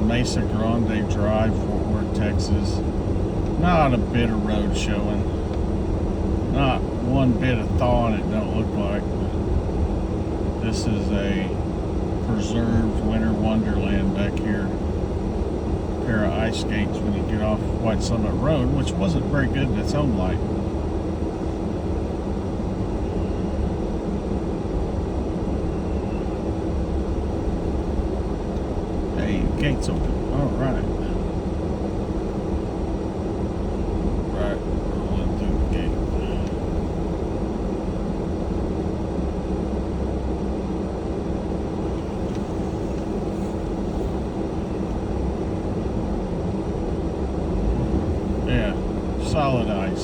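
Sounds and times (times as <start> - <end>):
car engine and tyres rumbling: 0.0 - 50.0
faint steady hum: 0.0 - 50.0.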